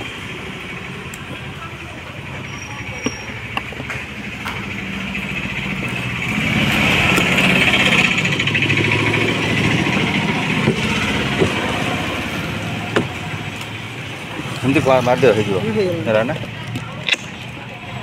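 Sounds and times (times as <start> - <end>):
small engine running: 0.0 - 16.8.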